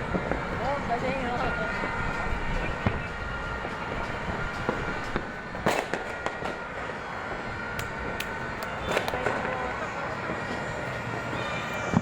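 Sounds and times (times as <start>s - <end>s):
firecracker bangs: 0.0s - 10.8s
distant fireworks crackle and rumble: 0.0s - 12.0s.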